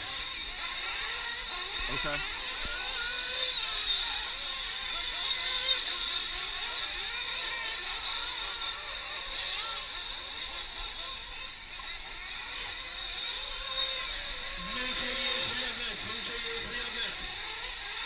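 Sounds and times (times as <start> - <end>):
rc truck engines whining: 0.0 - 18.0.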